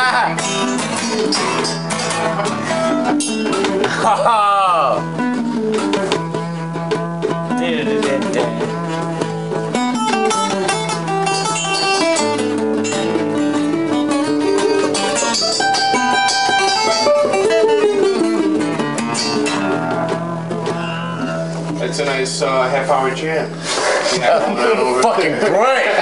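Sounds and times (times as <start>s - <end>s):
guitar jam: 0.0s - 26.0s.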